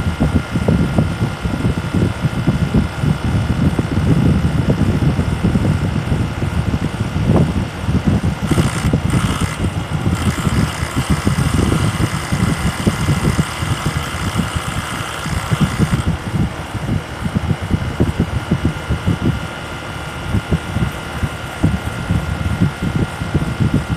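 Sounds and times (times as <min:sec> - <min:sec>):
faint steady whining tones: 0:00.0 - 0:23.9
heat pump low rumble: 0:00.0 - 0:23.9.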